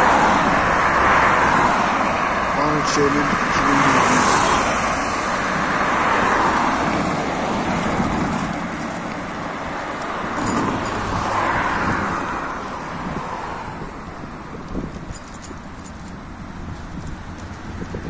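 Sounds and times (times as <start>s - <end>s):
cars passing on asphalt: 0.0s - 18.0s.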